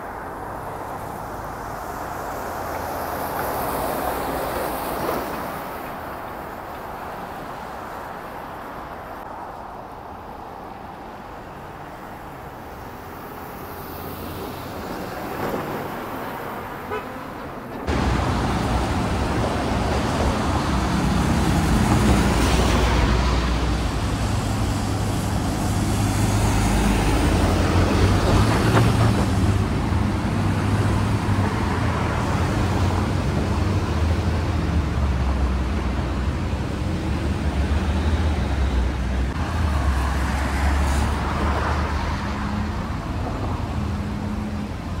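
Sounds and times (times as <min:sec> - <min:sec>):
vehicles passing on wet road: 0:00.0 - 0:45.0.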